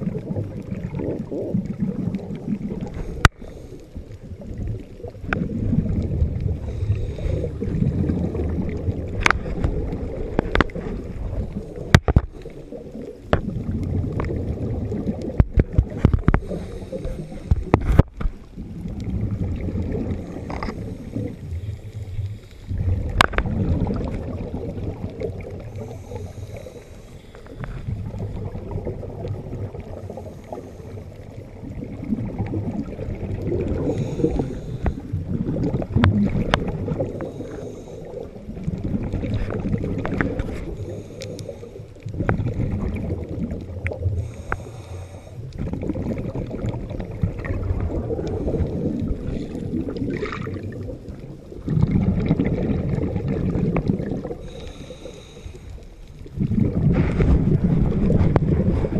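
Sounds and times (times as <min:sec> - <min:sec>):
underwater bubbles gurgling: 0:00.0 - 0:58.9.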